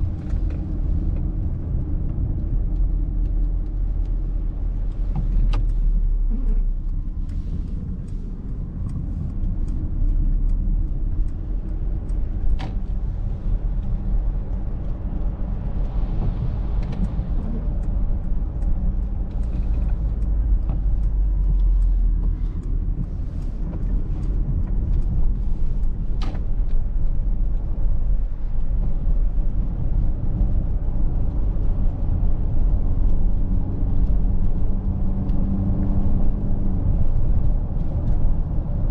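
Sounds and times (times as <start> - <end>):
tyre and drivetrain rumble: 0.0 - 38.9
rain ticking: 0.1 - 38.9.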